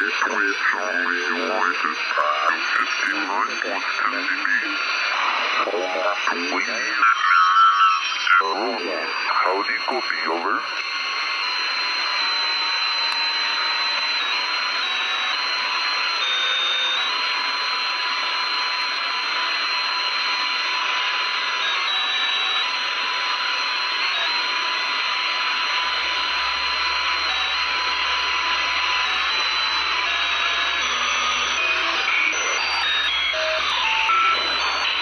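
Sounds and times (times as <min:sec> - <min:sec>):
radio static hiss: 0:00.0 - 0:15.8, 0:22.4 - 0:35.0.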